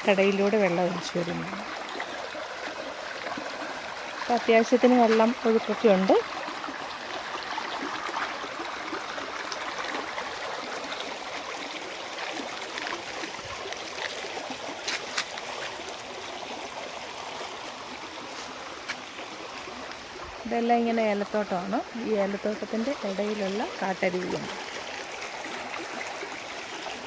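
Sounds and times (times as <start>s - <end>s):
stream running between rocks: 0.0s - 27.0s.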